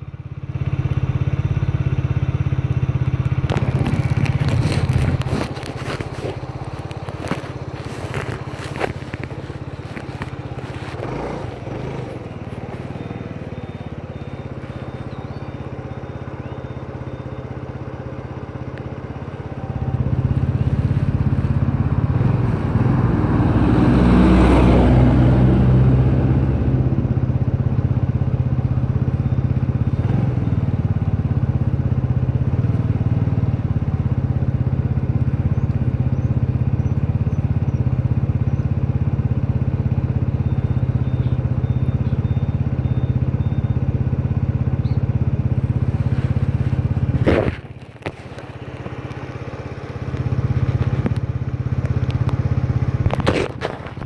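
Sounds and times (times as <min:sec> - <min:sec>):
scooter engine idling: 0:00.0 - 0:22.6, 0:25.8 - 0:54.0.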